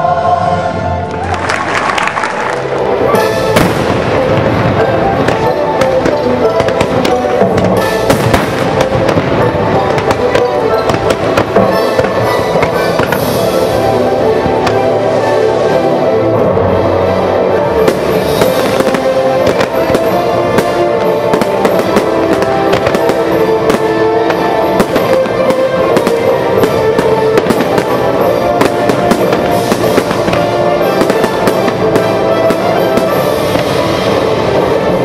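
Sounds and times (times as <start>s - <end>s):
loud music: 0.0s - 35.0s
fireworks bangs: 3.1s - 15.2s, 17.7s - 35.0s.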